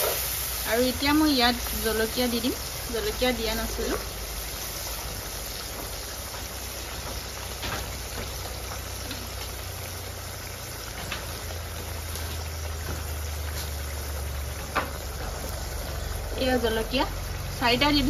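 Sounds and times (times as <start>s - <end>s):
curry bubbling in a wok: 0.0s - 18.0s
wood fire crackles: 0.0s - 18.0s.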